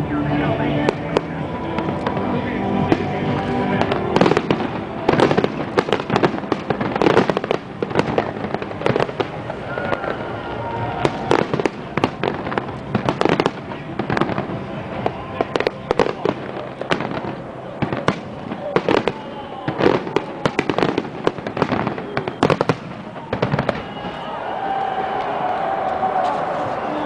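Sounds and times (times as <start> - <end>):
faint music: 0.0 - 27.0
fireworks bangs and crackles: 0.0 - 27.0.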